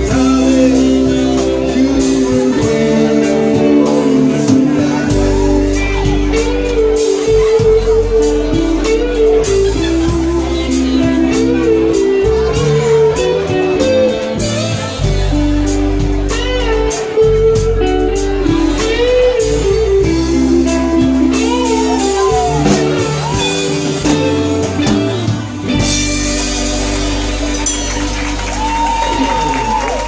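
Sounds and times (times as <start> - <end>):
electric guitar bending notes: 0.0 - 30.0
live band rock ballad: 0.0 - 30.0.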